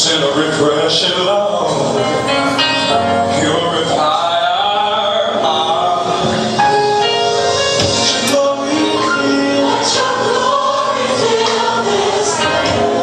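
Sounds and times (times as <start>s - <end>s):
man singing gospel: 0.0s - 10.9s
backing music: 0.0s - 13.0s.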